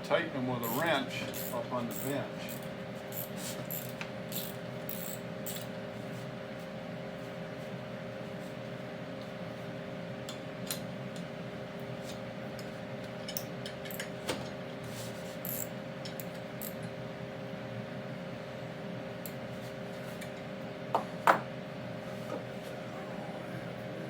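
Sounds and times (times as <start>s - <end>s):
steady hum: 0.0s - 10.4s, 14.8s - 24.0s.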